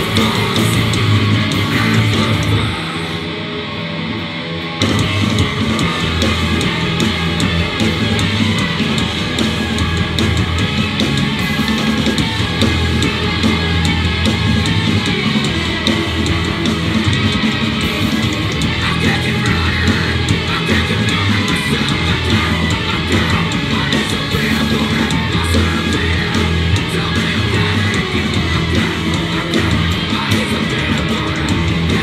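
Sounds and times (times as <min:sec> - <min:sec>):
bass guitar: 0:00.0 - 0:32.0
distorted electric guitars: 0:00.0 - 0:32.0
drums: 0:00.0 - 0:32.0.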